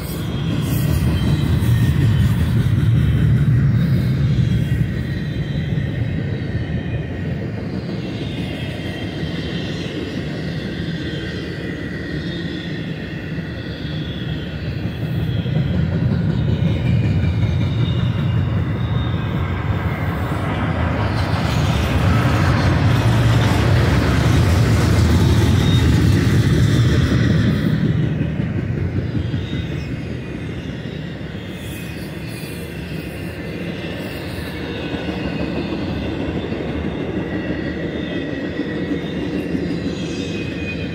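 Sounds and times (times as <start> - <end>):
faint wheel squeal: 0.0 - 40.9
train wheels rumbling on rail: 0.0 - 40.9.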